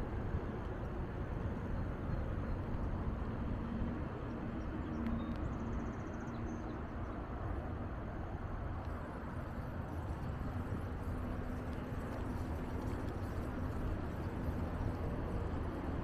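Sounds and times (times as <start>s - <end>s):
wind rumbling over microphone: 0.0s - 16.0s.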